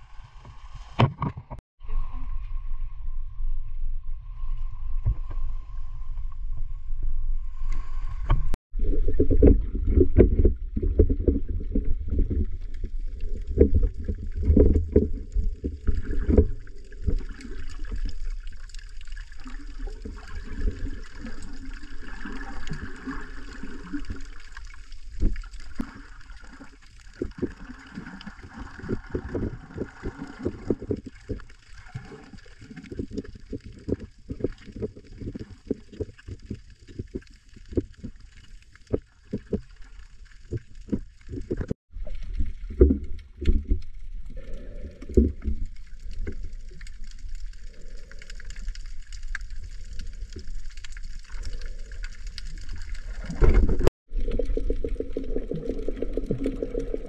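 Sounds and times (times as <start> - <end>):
low rumble at water's edge: 0.0 - 57.0
muffled underwater rumble: 0.0 - 57.0
underwater crackles and bubbling: 0.0 - 57.0.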